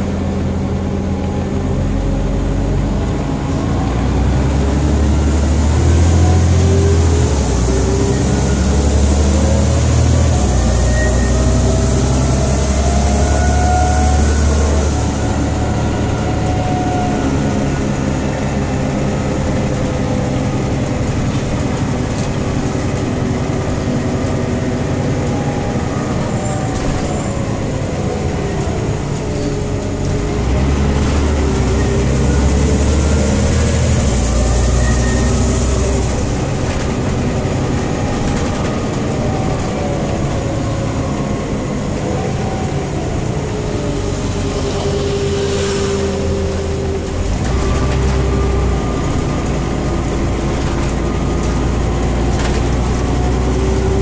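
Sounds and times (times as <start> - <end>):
bus engine low rumble: 0.0 - 54.0.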